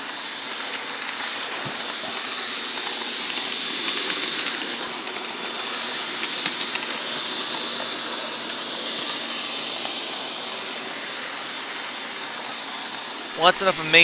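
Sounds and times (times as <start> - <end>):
wheels rolling on rails: 0.0 - 13.6
model train motor whine: 0.0 - 14.0.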